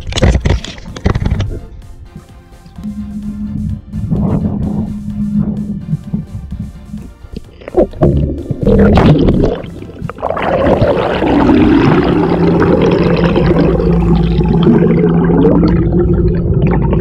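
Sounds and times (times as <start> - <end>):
underwater thruster hum and whine: 0.0 - 17.0
water splashing: 3.2 - 17.0
bubbling water: 3.3 - 17.0.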